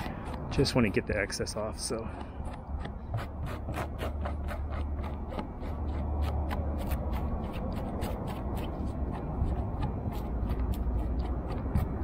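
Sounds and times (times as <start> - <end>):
eraser scrubbing over fabric: 0.0 - 12.0.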